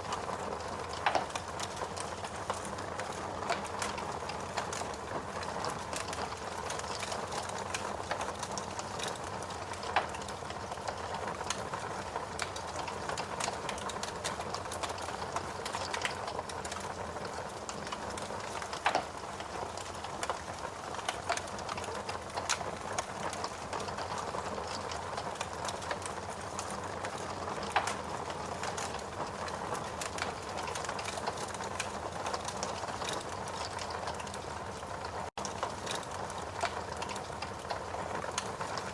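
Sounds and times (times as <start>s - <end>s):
steady rain: 0.0s - 38.9s
wood fire crackling: 0.0s - 38.9s
burning wood pops: 0.1s - 34.4s, 35.4s - 37.7s.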